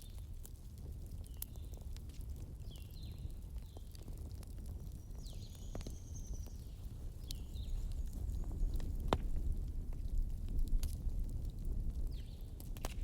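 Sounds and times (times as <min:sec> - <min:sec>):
campfire crackling: 0:00.0 - 0:13.0
low rumble of flames: 0:00.0 - 0:13.0.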